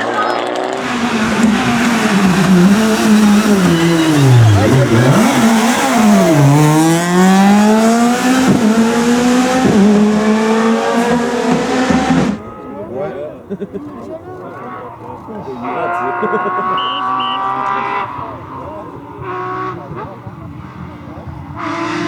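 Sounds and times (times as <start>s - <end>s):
rally car engine accelerating: 0.4s - 12.4s, 15.6s - 22.0s.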